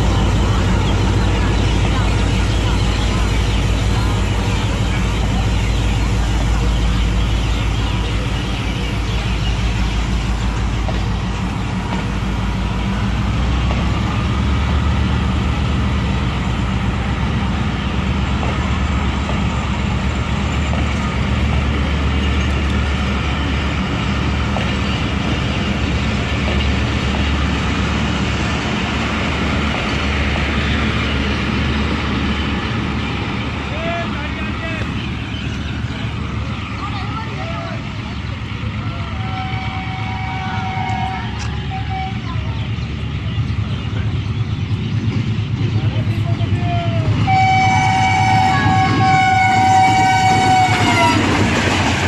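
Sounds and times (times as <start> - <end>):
diesel locomotive engine drone: 0.0 - 52.0
train wheels rumbling: 0.0 - 52.0.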